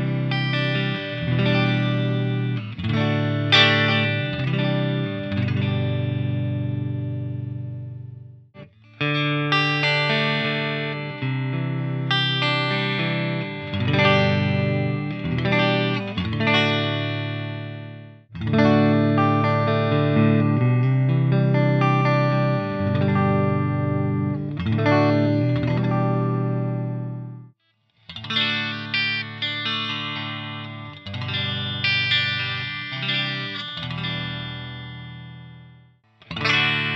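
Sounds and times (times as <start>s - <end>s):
electric guitar chords and notes: 0.0s - 36.9s.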